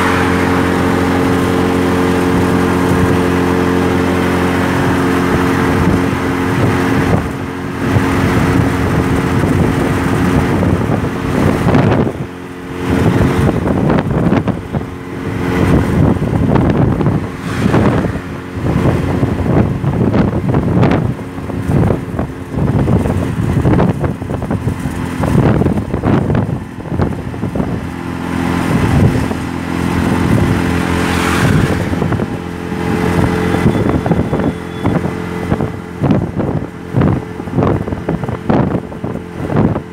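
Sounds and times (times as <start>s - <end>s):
auto-rickshaw engine running: 0.0s - 39.9s
wind buffeting microphone: 0.0s - 39.9s.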